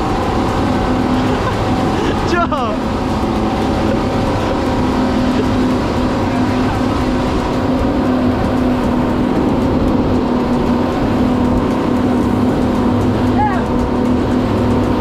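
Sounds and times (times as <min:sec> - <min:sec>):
churned water: 0:00.0 - 0:15.0
outboard motors droning: 0:00.0 - 0:15.0.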